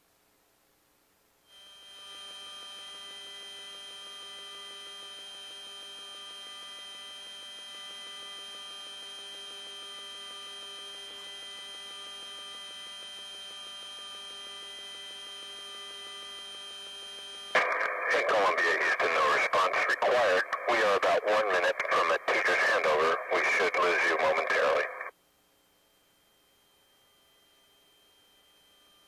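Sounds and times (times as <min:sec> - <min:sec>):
electrical hum: 0:01.6 - 0:29.0.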